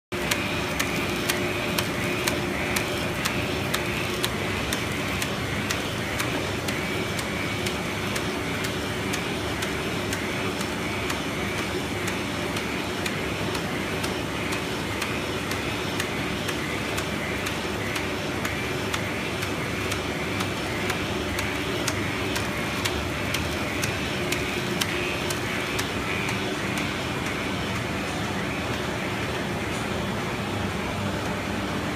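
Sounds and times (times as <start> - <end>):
machine humming and whirring: 0.1 - 31.9
sharp mechanical clicks: 0.2 - 29.9.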